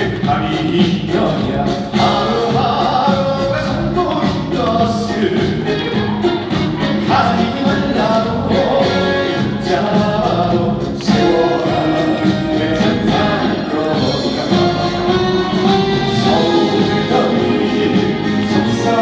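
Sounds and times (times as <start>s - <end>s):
band playing trot song: 0.0s - 19.0s
people singing: 0.0s - 19.0s.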